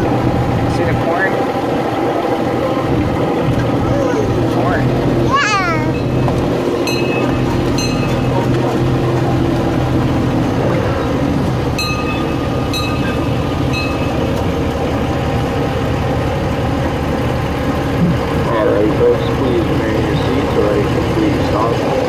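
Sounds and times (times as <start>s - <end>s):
tow vehicle engine running: 0.0s - 22.0s.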